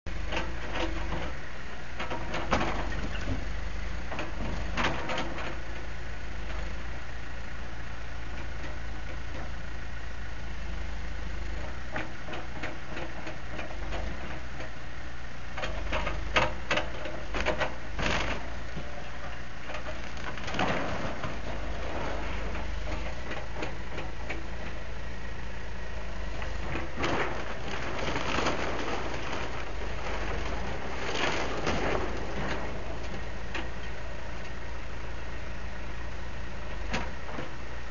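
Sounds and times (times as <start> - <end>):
diesel engine rumbling: 0.0 - 37.9.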